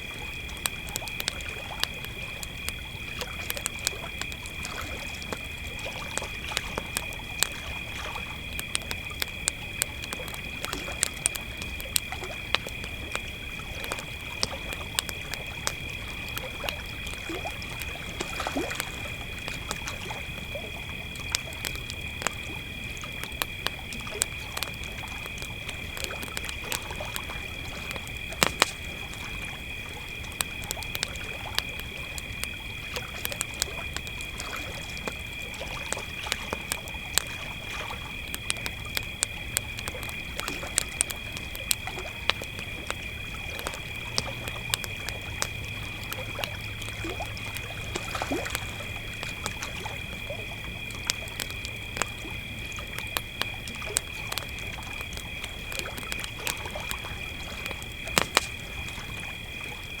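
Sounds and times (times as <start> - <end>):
campfire crackling and popping: 0.0 - 60.0
crickets trilling: 0.0 - 60.0.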